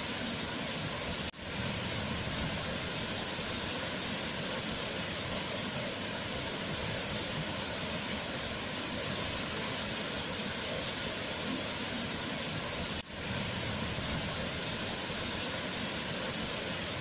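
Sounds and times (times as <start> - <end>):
waterfall roar: 0.0 - 17.0.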